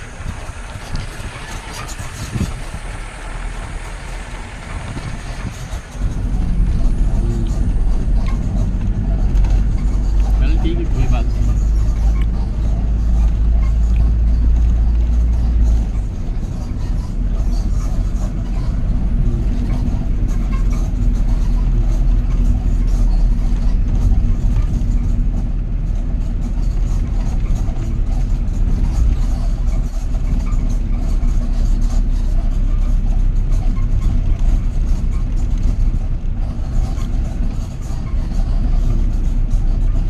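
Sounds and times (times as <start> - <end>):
vehicle engine and road rumble: 0.0 - 40.0.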